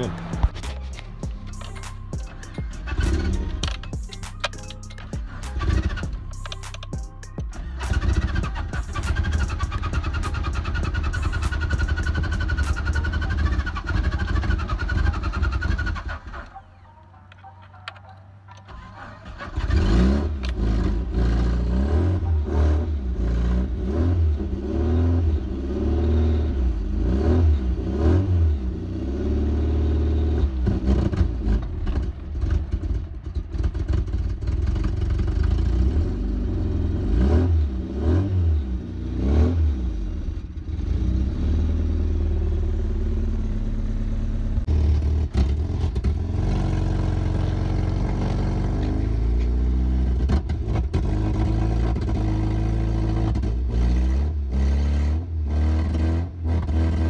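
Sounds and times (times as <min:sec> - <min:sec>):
car engine revving: 0:00.0 - 0:03.7, 0:04.3 - 0:06.9, 0:07.5 - 0:16.6, 0:18.6 - 0:57.0.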